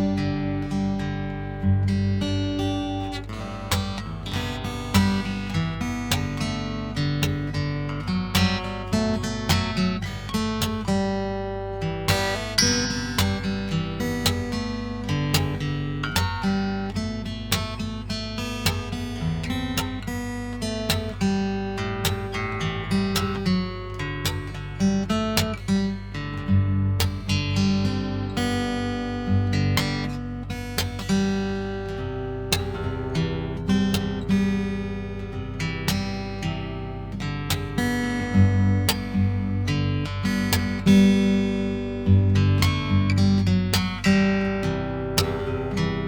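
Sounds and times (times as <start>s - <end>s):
fingerstyle acoustic guitar: 0.0s - 46.0s.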